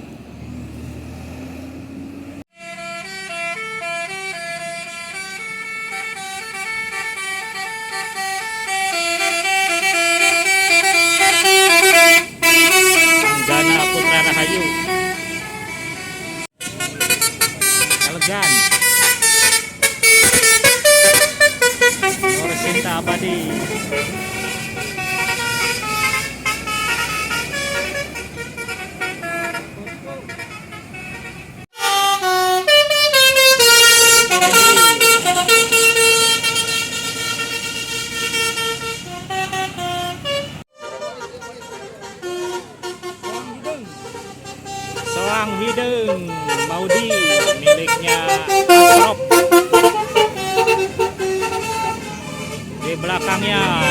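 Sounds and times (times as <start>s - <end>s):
bus multi-tone horn melody: 0.5s - 53.9s.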